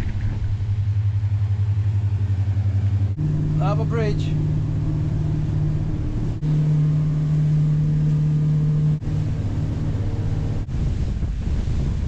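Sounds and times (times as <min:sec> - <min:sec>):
motor boat engine droning: 0:00.0 - 0:12.0.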